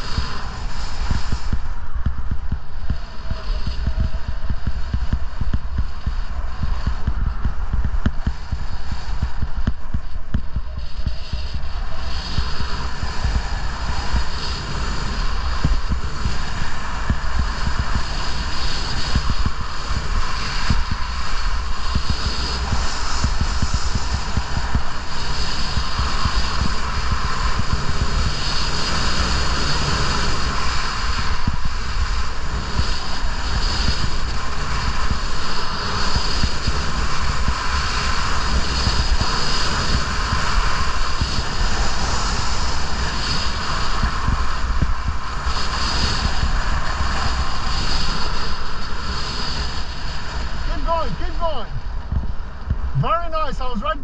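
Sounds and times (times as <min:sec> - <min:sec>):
skis carving on packed snow: 0:00.0 - 0:54.0
wind rushing over microphone: 0:00.0 - 0:54.0.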